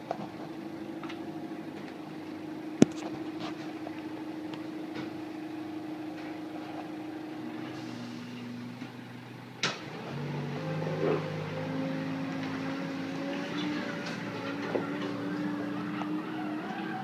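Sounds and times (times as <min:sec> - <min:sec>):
hydraulic machinery humming: 0:00.0 - 0:17.0.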